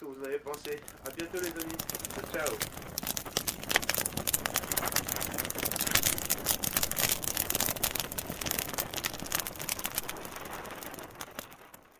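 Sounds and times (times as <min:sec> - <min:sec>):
dense irregular crackling: 0:00.0 - 0:11.9.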